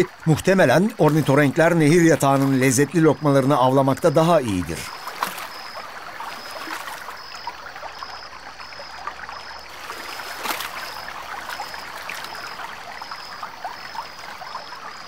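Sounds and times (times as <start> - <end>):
stream water babbling: 0.0 - 15.0.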